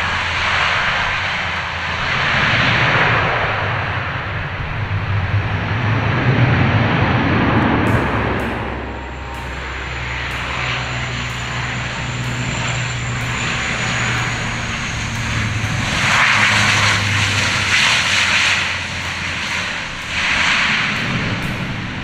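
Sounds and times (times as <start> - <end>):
high turbine whine: 0.0 - 22.0
plane passing rush: 0.0 - 22.0
propeller drone: 0.0 - 22.0.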